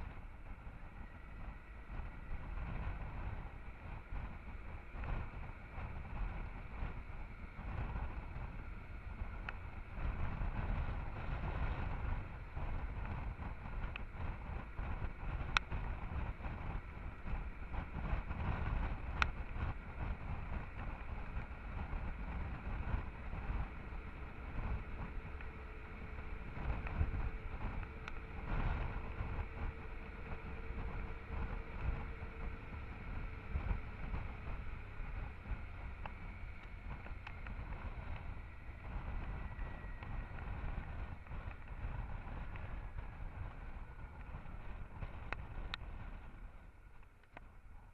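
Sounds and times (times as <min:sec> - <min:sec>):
motorcycle engine rumble: 0:00.0 - 0:47.9
wind buffeting microphone: 0:00.0 - 0:47.9.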